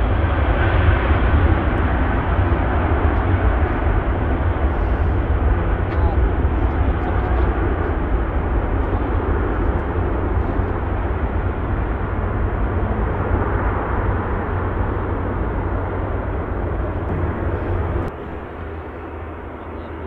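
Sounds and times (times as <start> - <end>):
jet airliner engine roar: 0.0 - 20.0.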